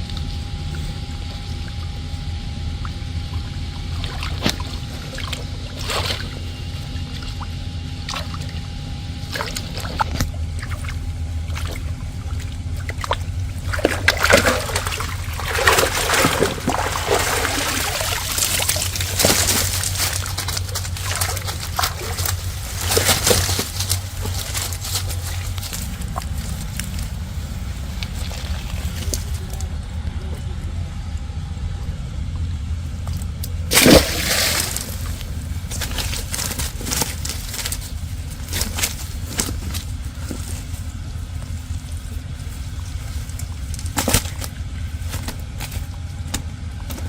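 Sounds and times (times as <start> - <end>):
steady low hum: 0.0 - 47.0
water splashing and sloshing: 2.8 - 29.7, 33.0 - 47.0.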